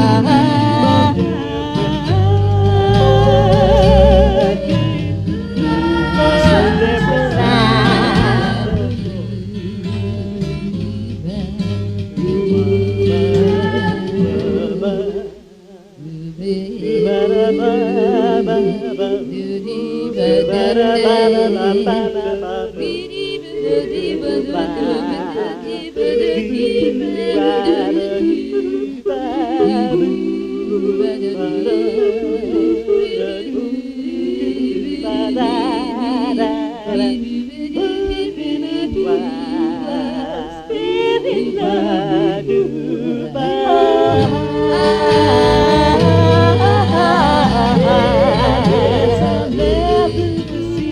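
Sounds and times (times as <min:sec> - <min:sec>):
person singing with vibrato: 0:00.0 - 0:50.9.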